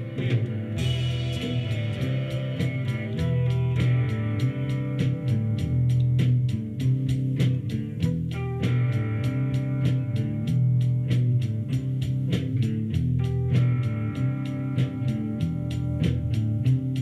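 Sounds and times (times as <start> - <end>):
guitar music: 0.0 - 17.0.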